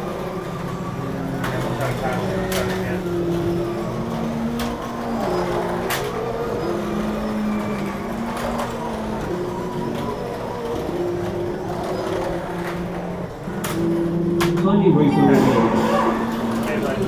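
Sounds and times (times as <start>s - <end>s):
slot car motors whining: 0.0s - 17.0s.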